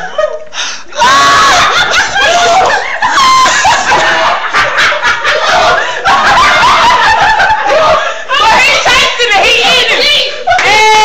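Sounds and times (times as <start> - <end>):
young people laughing and shrieking: 0.0 - 11.0.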